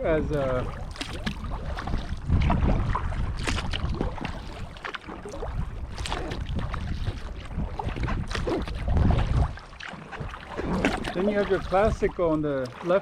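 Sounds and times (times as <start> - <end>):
wind rumble on microphone: 0.0 - 12.6
kayak paddles splashing: 0.0 - 13.0
water dripping off paddles: 0.0 - 13.0.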